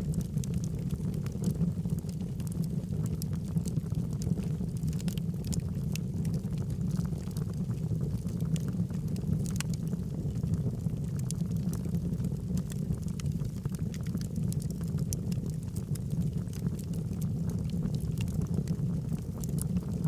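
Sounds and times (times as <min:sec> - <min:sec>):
low rumble of fire: 0:00.0 - 0:20.0
wood crackling and popping: 0:00.0 - 0:20.0.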